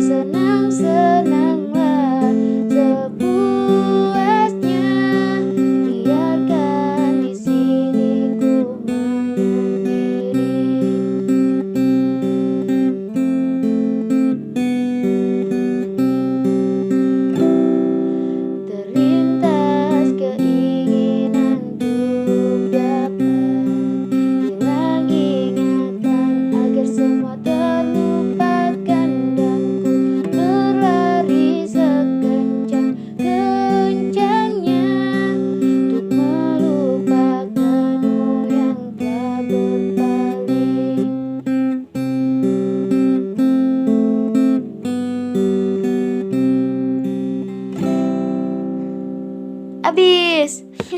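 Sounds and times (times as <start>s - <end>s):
acoustic guitar strumming chords: 0.0s - 50.9s.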